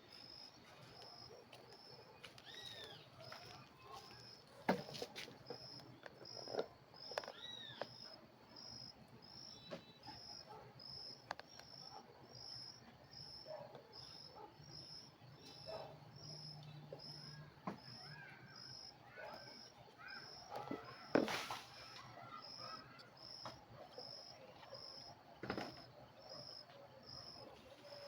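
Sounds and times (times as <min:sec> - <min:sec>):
high cricket-like chirping: 0:00.0 - 0:28.0.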